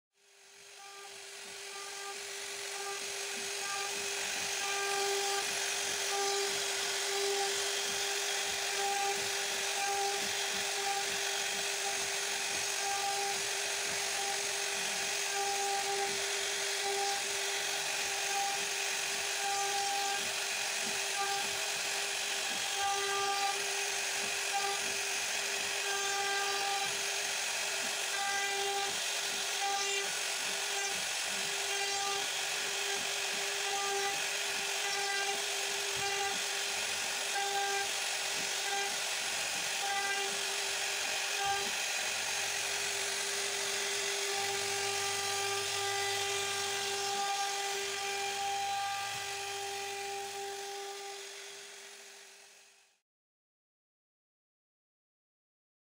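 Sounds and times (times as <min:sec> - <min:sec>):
router spindle high whine: 0:00.2 - 0:53.0
bit cutting wood hiss: 0:00.3 - 0:53.0.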